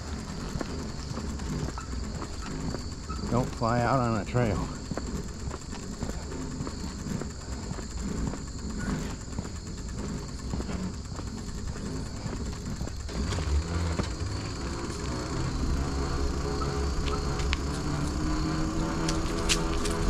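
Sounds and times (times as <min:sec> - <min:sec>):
bicycle rolling and rattling: 0:00.0 - 0:20.0
high insect chirring: 0:00.0 - 0:20.0.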